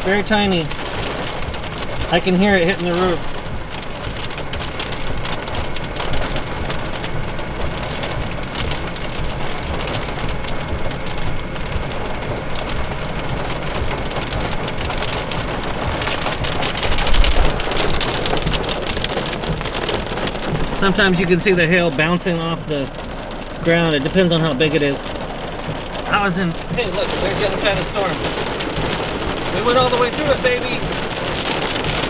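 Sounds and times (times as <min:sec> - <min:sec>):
low rumble: 0:00.0 - 0:32.0
rain and hail on car roof: 0:00.0 - 0:32.0.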